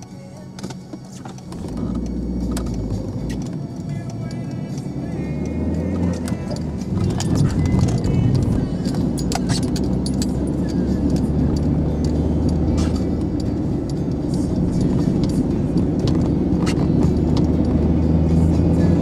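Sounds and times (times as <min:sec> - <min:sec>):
car engine and road noise: 0:00.0 - 0:19.0
clicks and rattles: 0:00.6 - 0:18.5.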